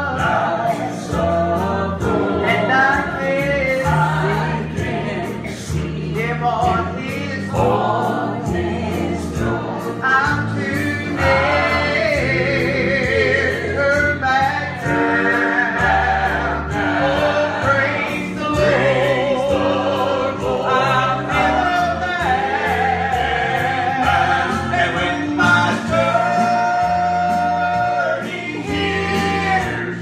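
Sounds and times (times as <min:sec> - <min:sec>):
gospel group singing in harmony: 0:00.0 - 0:30.0
musical accompaniment with beat: 0:00.0 - 0:30.0.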